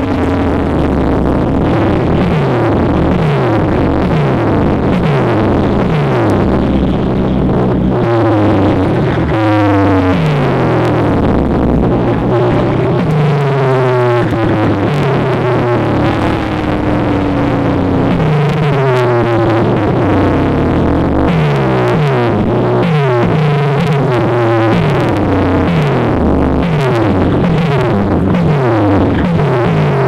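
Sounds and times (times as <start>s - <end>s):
loud electronic dance music: 0.0s - 30.0s.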